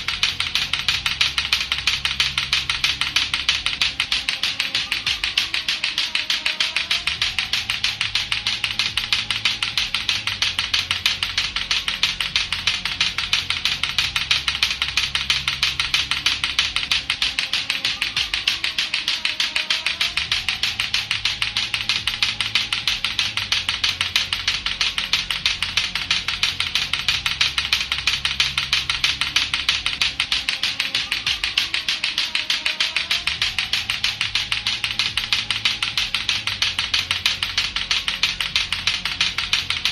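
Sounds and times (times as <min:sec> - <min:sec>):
plastic ball clackers clacking: 0:00.0 - 0:39.9.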